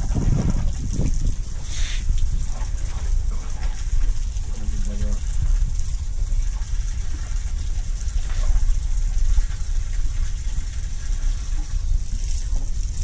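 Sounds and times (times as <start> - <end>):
heavy low rumble: 0.0 - 13.0
water hissing from a hose: 0.0 - 13.0.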